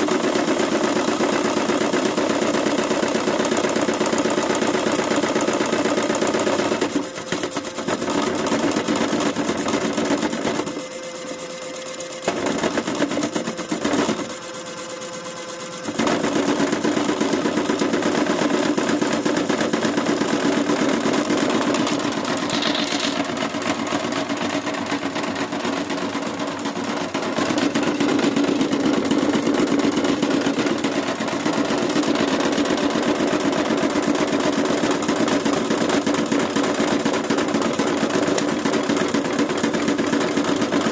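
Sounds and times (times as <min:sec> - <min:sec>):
washing machine rattling and knocking: 0:00.0 - 0:40.9.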